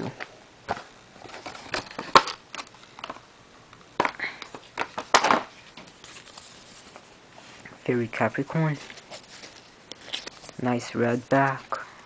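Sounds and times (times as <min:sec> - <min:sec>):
cards and plastic packaging rustling: 0:00.1 - 0:03.2, 0:04.0 - 0:11.8.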